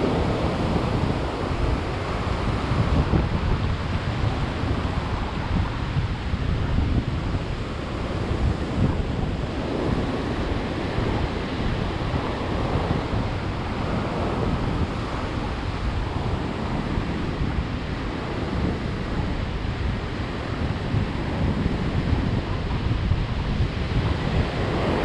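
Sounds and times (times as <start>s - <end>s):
surf washing up pebble beach: 0.0s - 25.0s
wind buffeting microphone: 0.0s - 25.0s.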